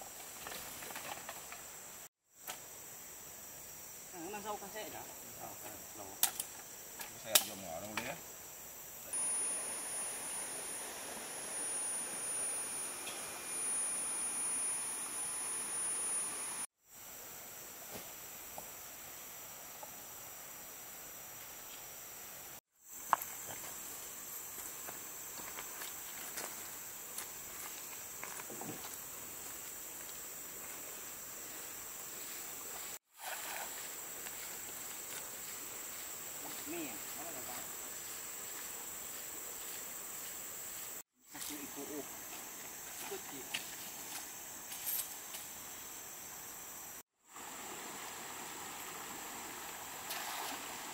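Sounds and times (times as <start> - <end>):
high-pitched insect drone: 0.6 - 17.7, 22.8 - 50.9.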